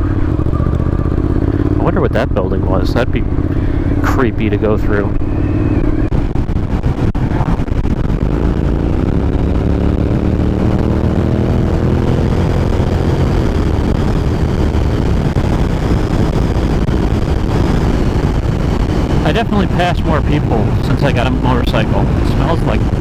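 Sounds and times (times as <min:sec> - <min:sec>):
motorcycle engine accelerating: 0:00.0 - 0:23.0
wind on microphone: 0:00.0 - 0:23.0.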